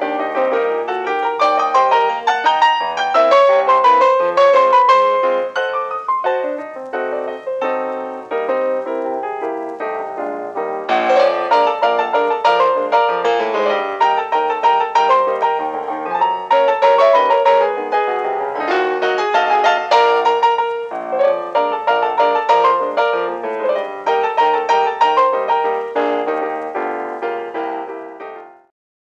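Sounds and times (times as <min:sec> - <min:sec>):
quick piano music: 0:00.0 - 0:28.7.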